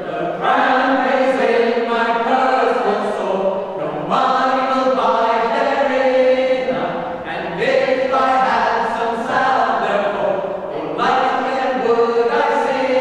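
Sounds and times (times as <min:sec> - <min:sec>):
mixed choir singing a cappella: 0:00.0 - 0:13.0.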